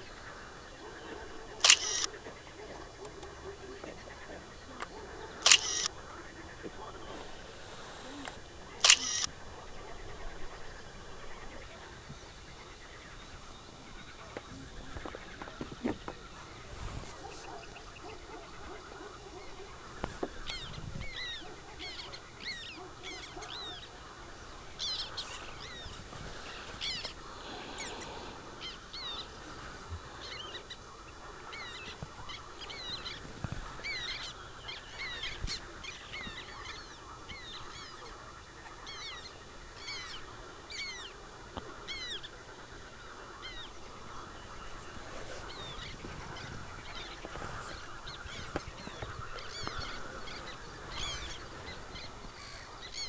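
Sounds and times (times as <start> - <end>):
wild birds chirping: 0.0 - 53.0.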